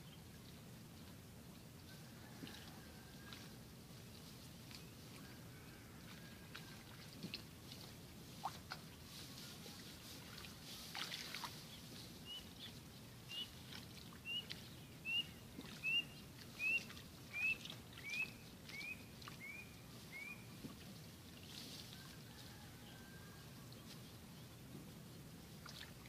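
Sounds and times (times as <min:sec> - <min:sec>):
rustling of rice plants: 0:02.0 - 0:26.0.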